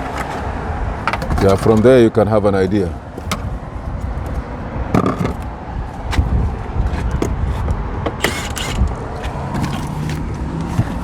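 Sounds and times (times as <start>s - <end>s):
car interior parts clicking: 0.0s - 2.1s, 3.0s - 11.0s.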